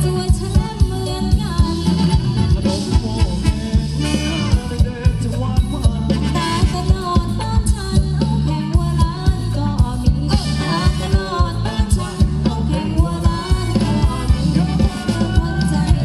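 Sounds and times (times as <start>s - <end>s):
drum beat and bass: 0.0s - 16.0s
person singing: 0.0s - 16.0s.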